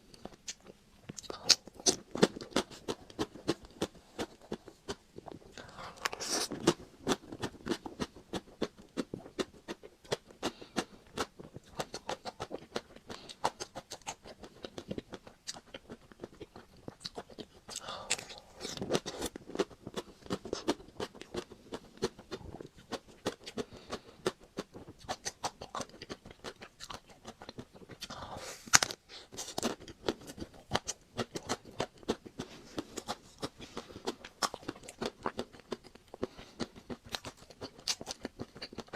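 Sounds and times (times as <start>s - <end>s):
biting and chewing ice cream bar: 0.0s - 38.9s.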